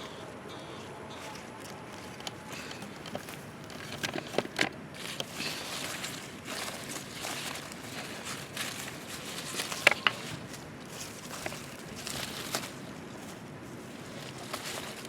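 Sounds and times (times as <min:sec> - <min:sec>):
vines and dry soil rustling: 0:00.0 - 0:15.0.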